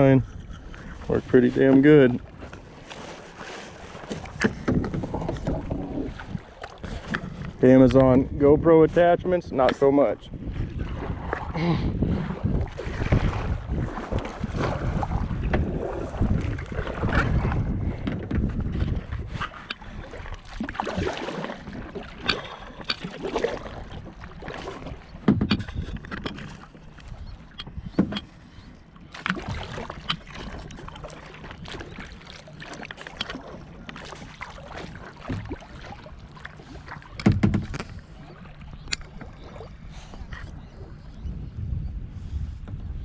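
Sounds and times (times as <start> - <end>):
water lapping against hull: 0.0 - 43.0
paddle strokes splashing: 0.4 - 7.6, 9.5 - 40.9.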